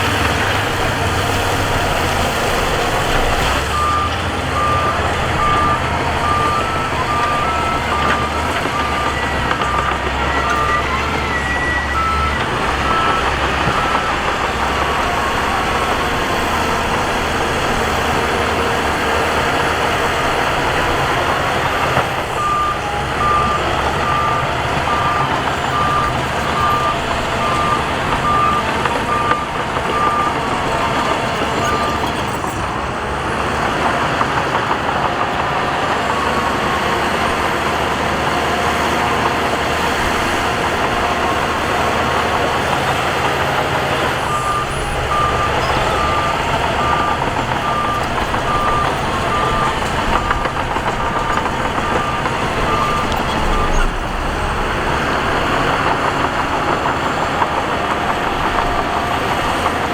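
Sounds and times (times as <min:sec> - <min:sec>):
reversing alarm beeping: 0:00.0 - 0:32.6, 0:36.1 - 0:57.8
heavy machinery diesel engine: 0:00.0 - 0:59.9.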